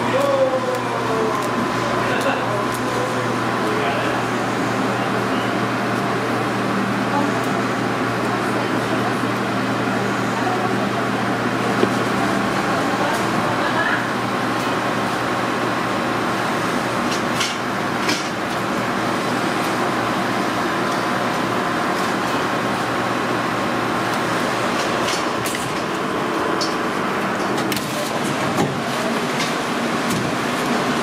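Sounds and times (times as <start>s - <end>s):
kitchen rush with faint hum: 0.0s - 31.0s.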